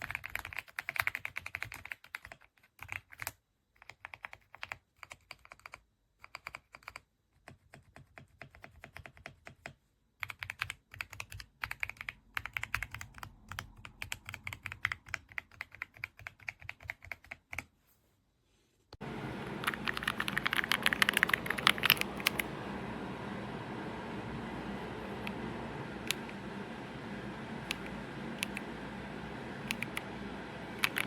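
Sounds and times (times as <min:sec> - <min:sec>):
mechanical keyboard typing: 0:00.0 - 0:17.7, 0:19.3 - 0:23.6, 0:24.4 - 0:31.0.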